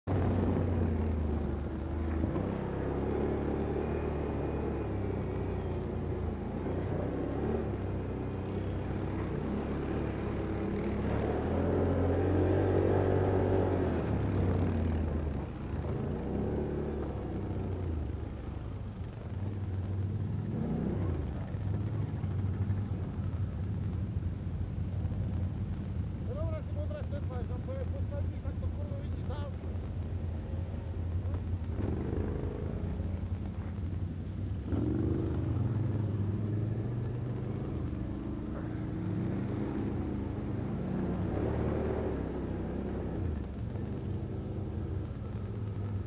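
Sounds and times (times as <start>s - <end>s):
atv engine revving: 0.1s - 18.8s, 19.4s - 23.5s, 28.8s - 46.0s.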